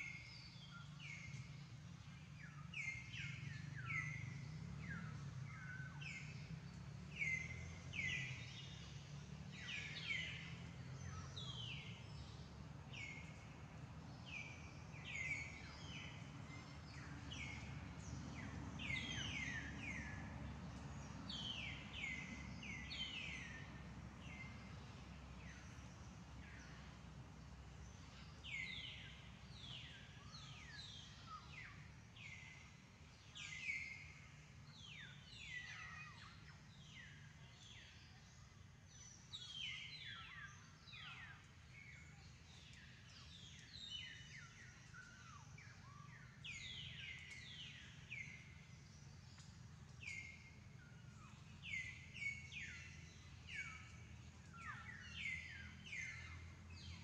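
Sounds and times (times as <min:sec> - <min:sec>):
birds chirping: 0:00.0 - 0:57.0
faint low background rumble: 0:00.0 - 0:57.0.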